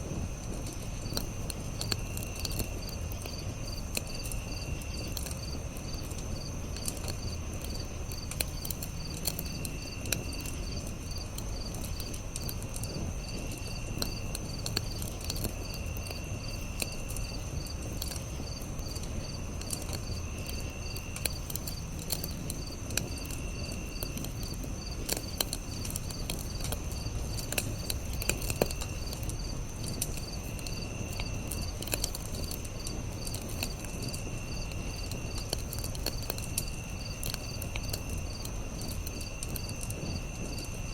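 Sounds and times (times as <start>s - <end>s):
campfire crackling and popping: 0.0s - 40.9s
crickets rapid pulsing chirp: 0.0s - 40.9s.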